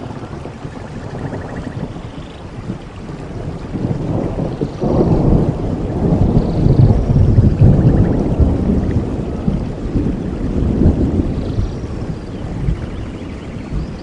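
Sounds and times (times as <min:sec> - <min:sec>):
rain falling: 0:00.0 - 0:14.0
rolling thunder: 0:00.0 - 0:14.0.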